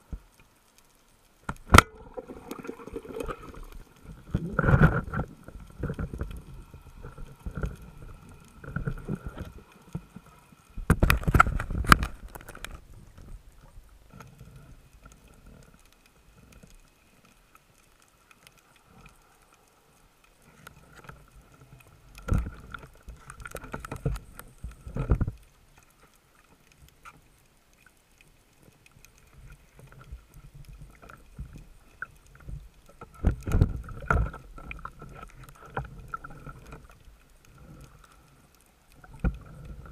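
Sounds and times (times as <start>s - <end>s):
muffled rushes of water: 0.0s - 39.9s.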